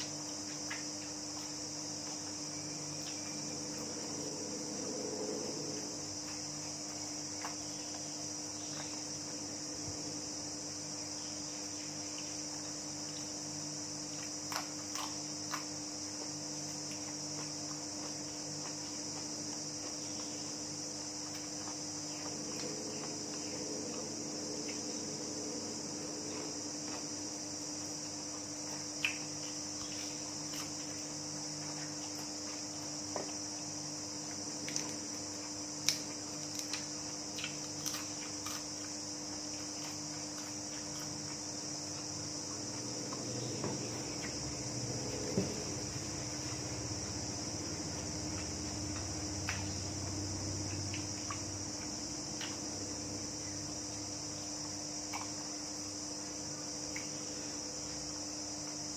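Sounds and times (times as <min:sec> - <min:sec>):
high-pitched insect chorus: 0:00.0 - 0:58.9
steady low hum: 0:00.0 - 0:58.9.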